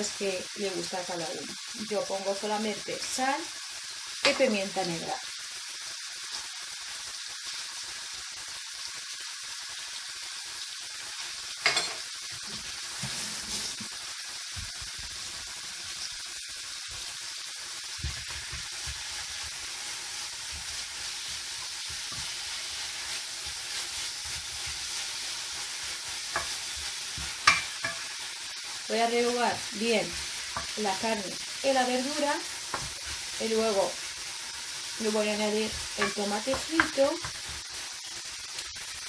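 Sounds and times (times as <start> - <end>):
meat sizzling in a frying pan: 0.0 - 39.0.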